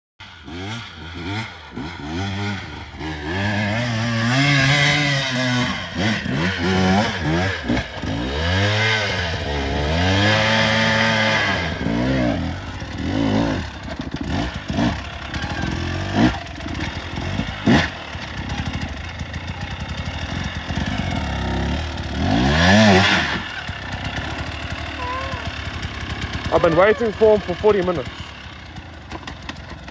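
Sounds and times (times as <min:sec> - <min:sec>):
dirt bike engine revving: 0:00.2 - 0:29.9.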